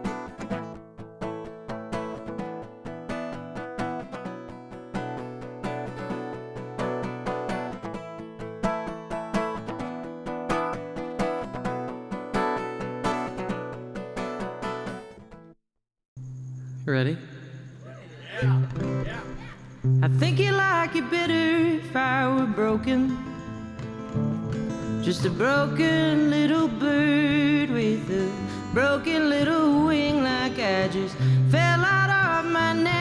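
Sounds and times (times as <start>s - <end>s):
acoustic guitar picked and strummed: 0.0s - 15.6s, 18.5s - 33.0s.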